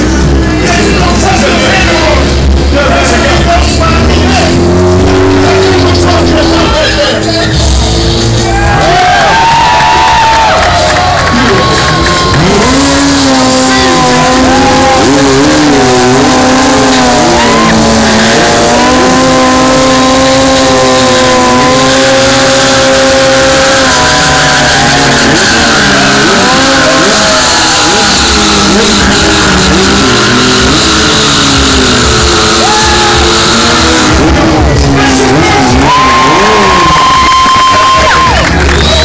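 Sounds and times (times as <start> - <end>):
motorcycle engine revving: 0.0 - 9.0, 9.9 - 39.0.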